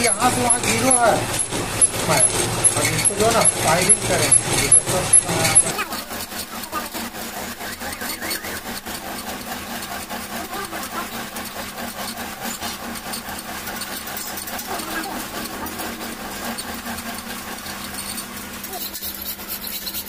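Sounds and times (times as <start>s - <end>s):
metal lathe humming: 0.0s - 20.0s
rapid ticking: 0.0s - 20.0s.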